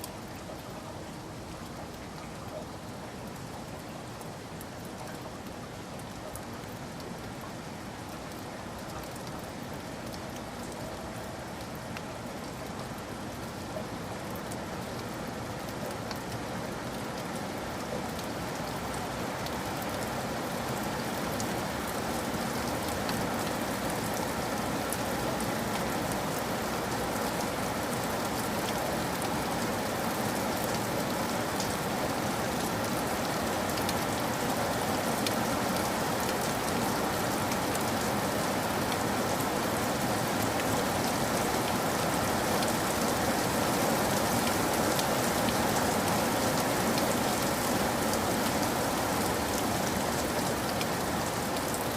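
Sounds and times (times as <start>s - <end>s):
steady rain pattering: 0.0s - 51.9s.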